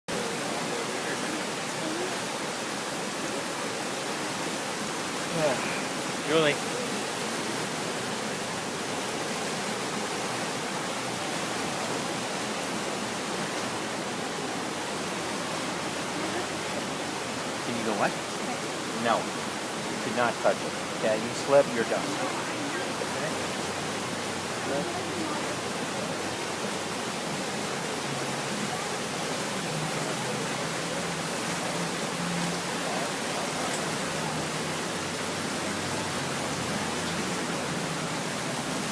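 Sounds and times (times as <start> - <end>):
fast water rushing: 0.0 - 38.9.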